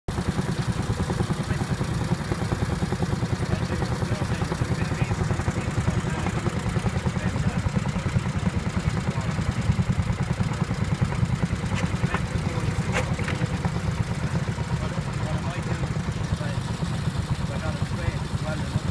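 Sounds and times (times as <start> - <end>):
walk-behind tractor engine chugging: 0.1 - 18.9.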